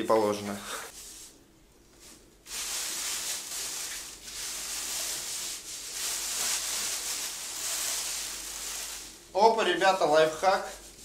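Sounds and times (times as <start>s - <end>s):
plastic bag rustling and crinkling: 2.0s - 11.0s.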